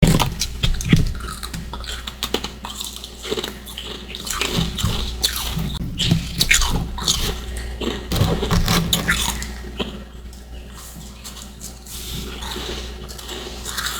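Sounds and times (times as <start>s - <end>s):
ice crunching while chewed: 0.0s - 13.9s.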